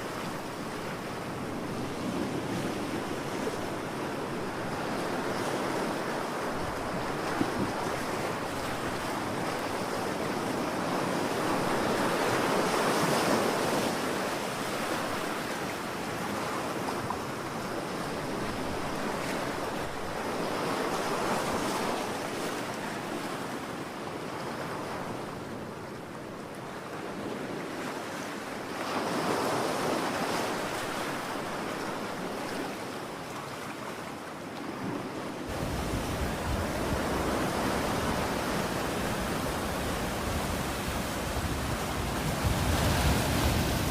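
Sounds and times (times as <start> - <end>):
ocean waves breaking on shore: 0.0 - 43.9.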